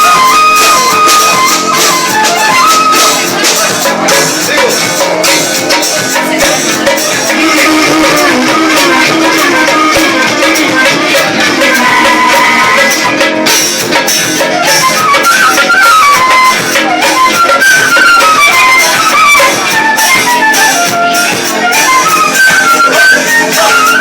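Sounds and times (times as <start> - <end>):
fife playing quick melody: 0.0 - 24.0
hand percussion: 0.0 - 24.0.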